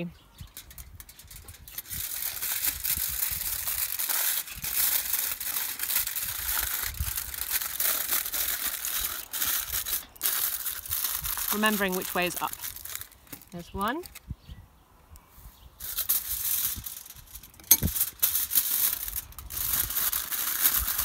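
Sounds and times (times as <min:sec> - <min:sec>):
aluminium foil crinkling: 0:00.4 - 0:14.3, 0:15.8 - 0:21.0.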